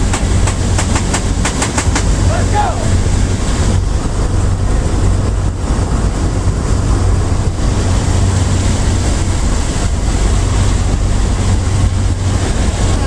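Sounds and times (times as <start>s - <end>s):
aircraft engine drone: 0.0s - 13.0s
rushing air: 0.0s - 13.0s.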